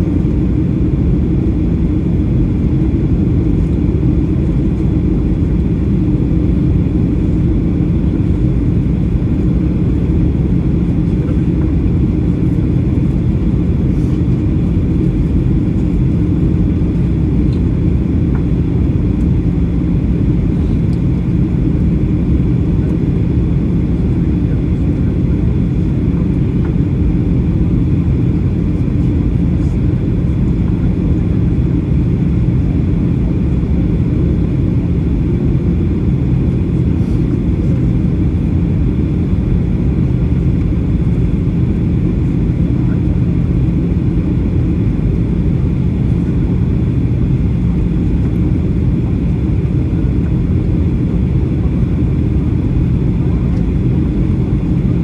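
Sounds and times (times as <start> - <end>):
aircraft cabin engine drone: 0.0 - 55.0
constant hum: 0.0 - 55.0.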